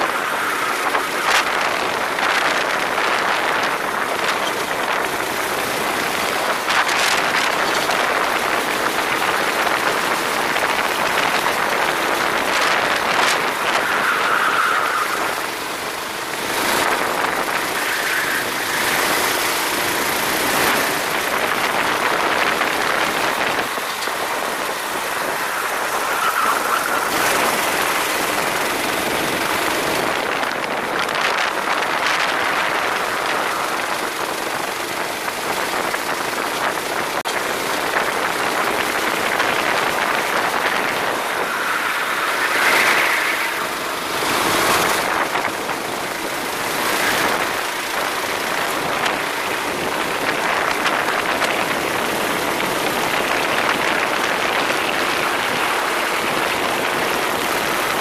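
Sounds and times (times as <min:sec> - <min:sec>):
go-kart engine running: 0:00.0 - 0:58.0
wind noise: 0:00.0 - 0:58.0.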